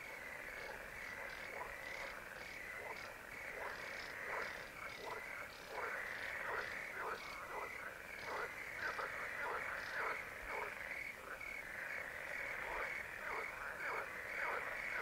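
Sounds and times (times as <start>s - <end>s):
frogs calling: 0.0s - 15.0s.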